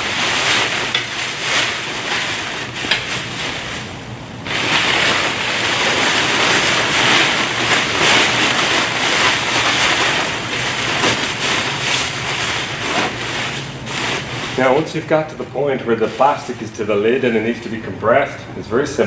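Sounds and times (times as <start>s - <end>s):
plastic wrap rustling and crinkling: 0.0s - 18.3s.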